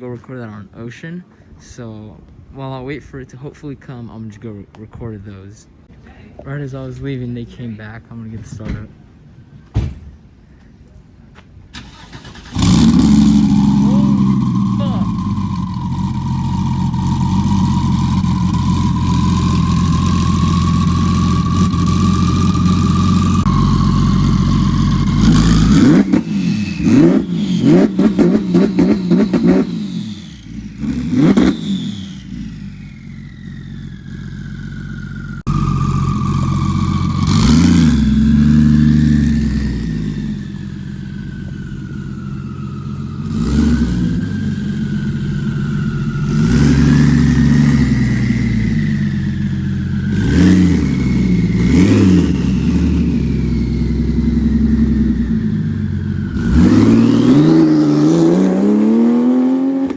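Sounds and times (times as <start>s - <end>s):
car engine idling and revving: 11.7s - 59.9s.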